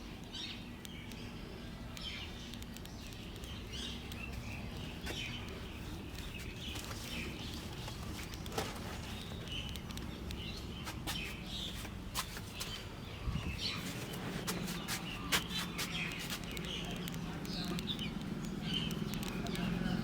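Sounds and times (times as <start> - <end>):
small birds chirping: 0.0 - 20.0
sharp clicks: 0.2 - 12.9, 13.5 - 20.0.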